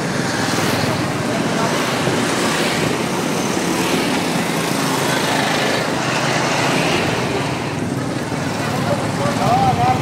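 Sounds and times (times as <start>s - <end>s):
passing street traffic: 0.0s - 10.0s
small motorcycle engines running: 0.0s - 10.0s.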